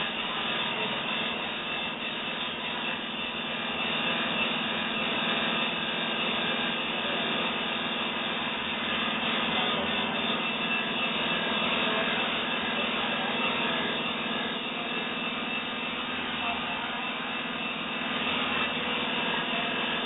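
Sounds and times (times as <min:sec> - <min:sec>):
drill machine grinding: 0:00.0 - 0:20.0.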